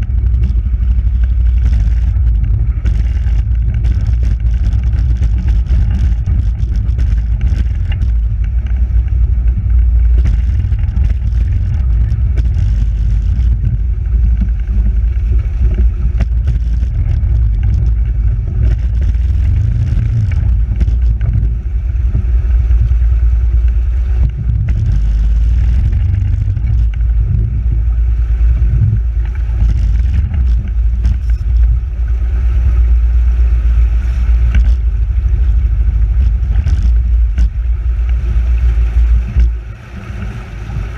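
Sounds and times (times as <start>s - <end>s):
river water churning and splashing: 0.0s - 40.9s.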